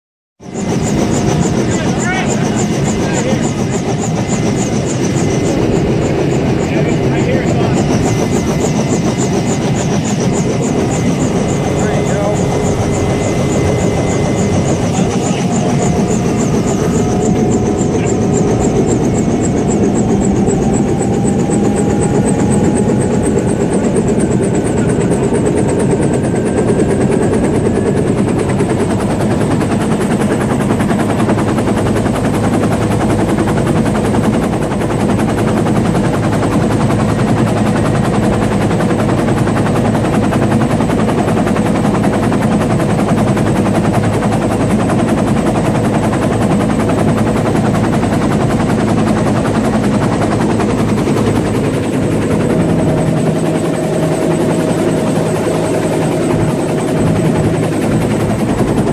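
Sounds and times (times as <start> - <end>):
helicopter rotor chop: 0.4 - 58.9
turbine noise: 0.5 - 58.9.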